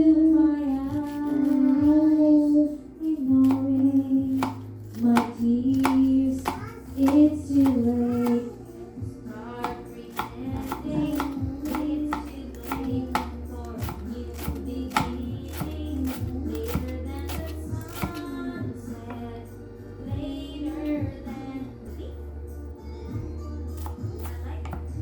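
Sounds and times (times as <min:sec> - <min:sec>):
music with singing voice: 0:00.0 - 0:25.0.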